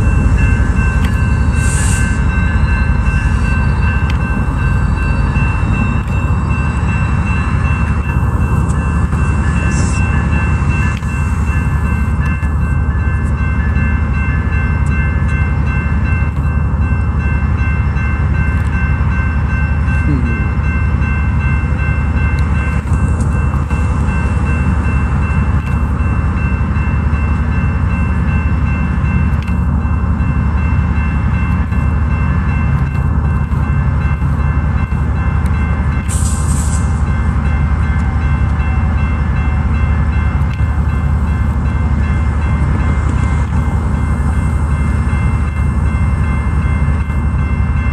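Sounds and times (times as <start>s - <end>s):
diesel locomotive engine rumble: 0.0s - 47.9s.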